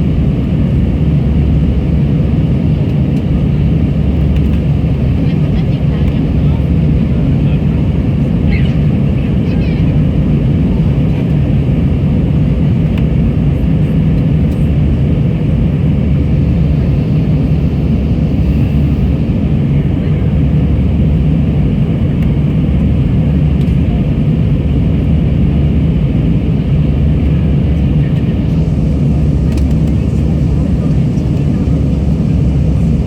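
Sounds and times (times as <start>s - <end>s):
airliner cabin engine roar: 0.0s - 33.0s.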